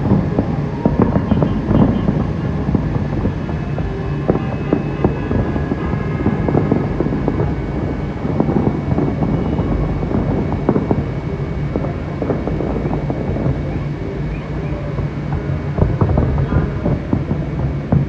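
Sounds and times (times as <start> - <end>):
low rumble: 0.0 - 18.0
wind on microphone: 0.0 - 18.0.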